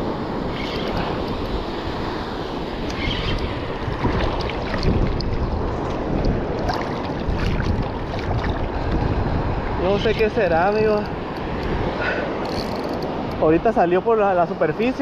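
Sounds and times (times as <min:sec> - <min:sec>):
wind buffeting microphone: 0:00.0 - 0:13.8
surf and shallow water: 0:00.0 - 0:15.0.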